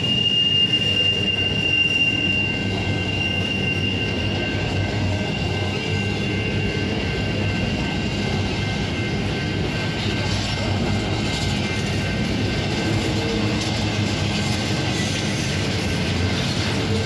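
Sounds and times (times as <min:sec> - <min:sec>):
high-pitched wheel squeal: 0:00.0 - 0:17.0
train wheels rumbling on rails: 0:00.0 - 0:17.0.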